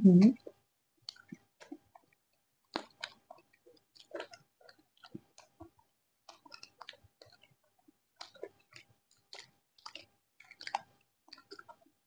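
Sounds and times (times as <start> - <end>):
people chewing crunchy food: 0.4 - 12.0.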